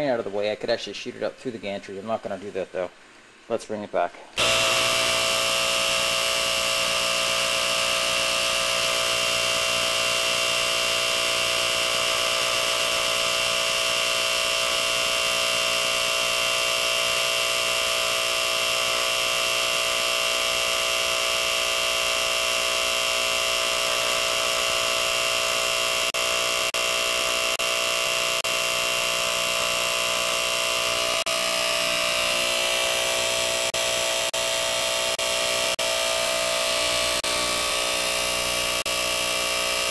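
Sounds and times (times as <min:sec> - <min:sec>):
small electric motor whining: 0:04.4 - 0:39.9.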